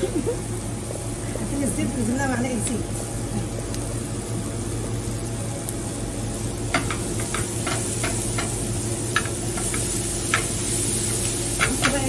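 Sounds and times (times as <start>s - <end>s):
steady low hum: 0.0s - 12.0s
vegetables sizzling in a frying pan: 0.0s - 12.0s.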